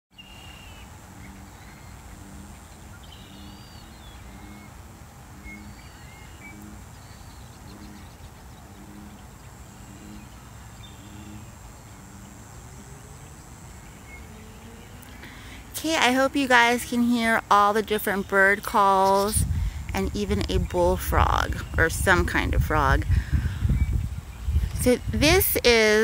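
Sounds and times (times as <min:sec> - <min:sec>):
birds chirping and whistling: 0:00.2 - 0:15.6, 0:19.0 - 0:25.6
frog croaking: 0:00.2 - 0:23.1.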